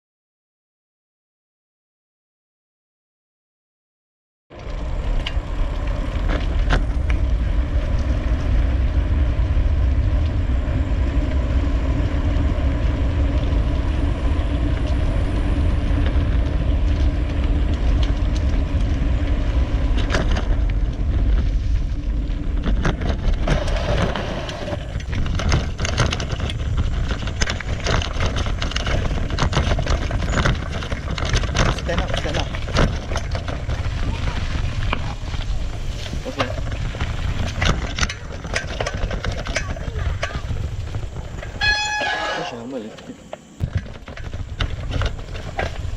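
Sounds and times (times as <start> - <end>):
wind and tyres on trail: 4.5 - 45.9.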